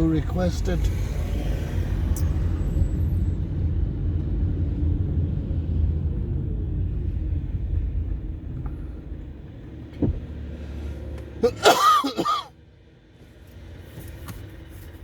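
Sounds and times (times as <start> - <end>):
vehicle rumble from inside: 0.0 - 15.0.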